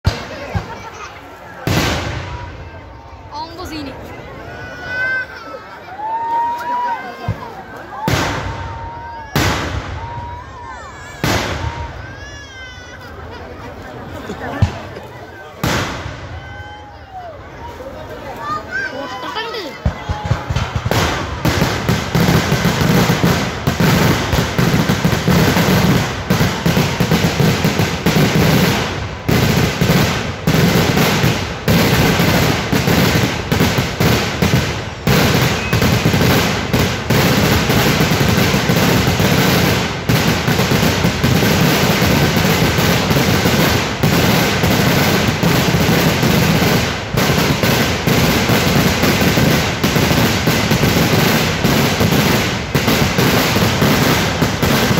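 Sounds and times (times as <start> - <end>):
firecracker explosions barrage: 0.0 - 4.0, 4.6 - 17.6, 18.7 - 54.9.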